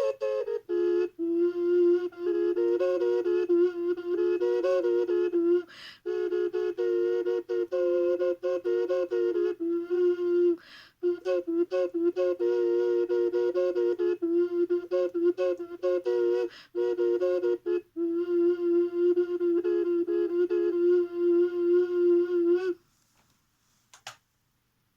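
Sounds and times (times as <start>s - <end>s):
ocarina playing two notes: 0.0s - 22.8s.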